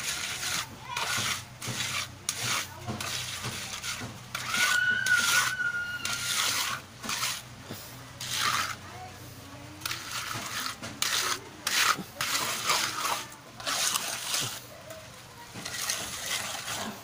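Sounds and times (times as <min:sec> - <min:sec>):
float scraping wet cement: 0:00.0 - 0:17.0.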